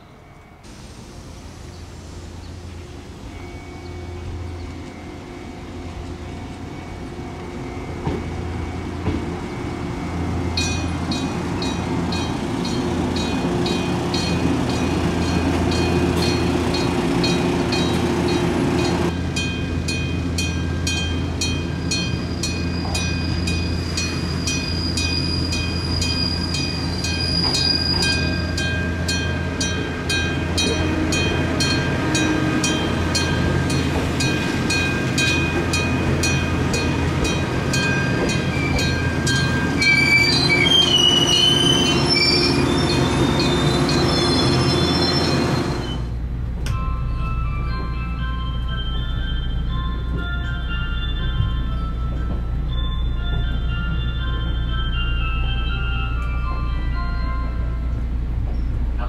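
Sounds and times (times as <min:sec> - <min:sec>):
train humming: 0:00.0 - 0:59.0
level-crossing warning bell ringing: 0:02.9 - 0:46.0, 0:46.7 - 0:58.7.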